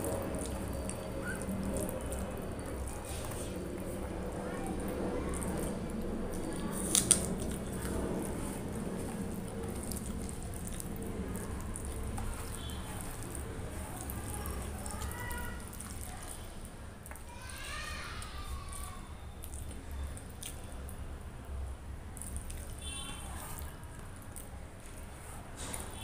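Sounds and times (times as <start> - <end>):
food squished by hand: 0.0 - 21.1, 22.2 - 24.8.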